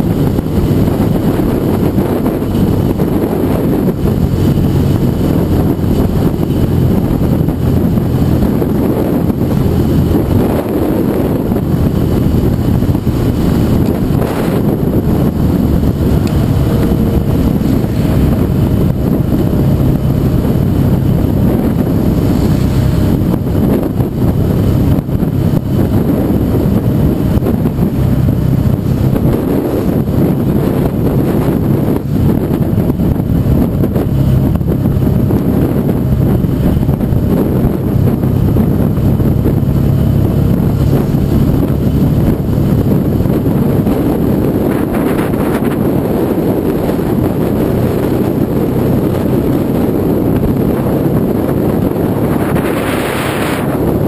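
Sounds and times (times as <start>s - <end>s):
motorcycle engine drone: 0.0s - 54.0s
wind rumble on microphone: 0.0s - 54.0s.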